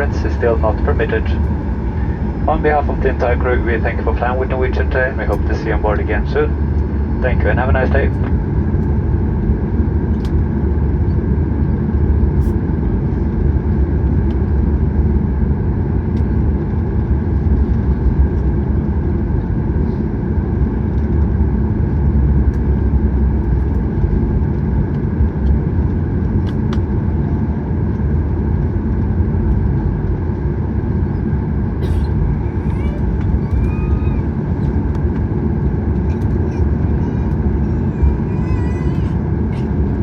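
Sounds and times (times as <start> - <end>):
aircraft cabin low rumble: 0.0 - 40.0.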